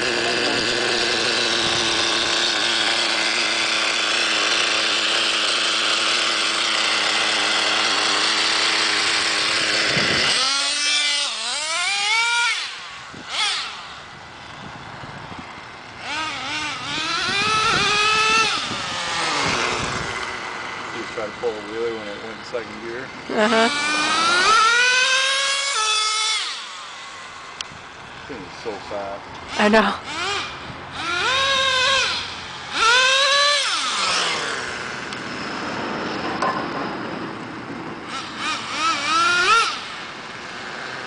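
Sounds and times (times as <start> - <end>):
small nitro engine revving: 0.0 - 41.0.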